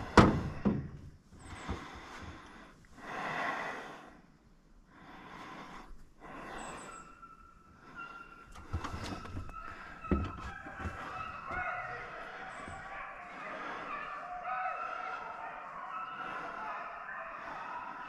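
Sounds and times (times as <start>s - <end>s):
person breathing: 1.4s - 10.1s, 12.0s - 18.0s.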